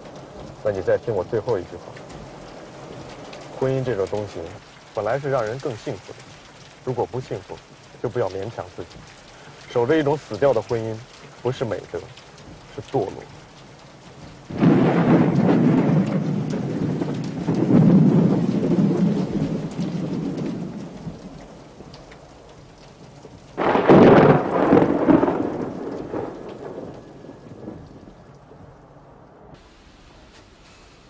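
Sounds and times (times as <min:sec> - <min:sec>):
steady rain: 0:00.0 - 0:31.0
thunder rumbling: 0:00.0 - 0:31.0.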